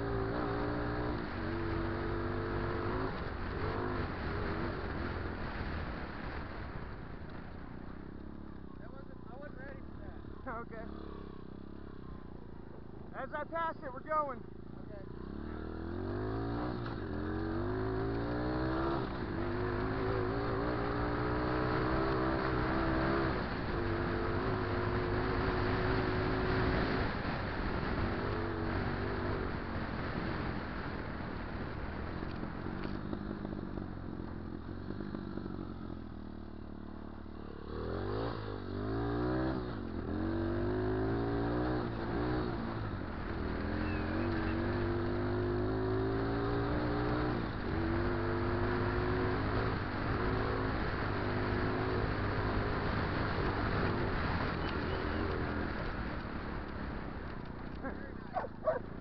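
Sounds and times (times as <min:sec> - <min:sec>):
motorbike engine accelerating: 0:07.9 - 0:59.0.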